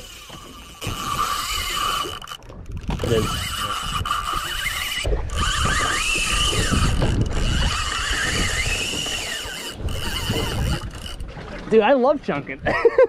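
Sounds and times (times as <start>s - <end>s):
fishing reel whining and ratcheting: 0.0s - 11.3s.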